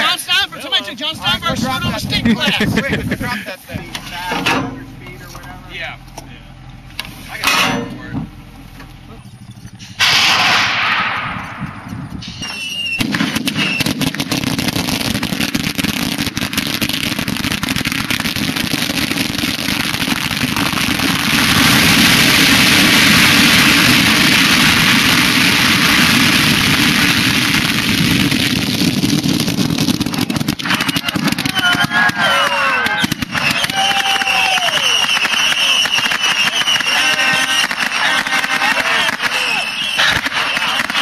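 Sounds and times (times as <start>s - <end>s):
firecrackers crackling and banging: 0.0s - 41.0s
loud firework blast: 1.4s - 41.0s.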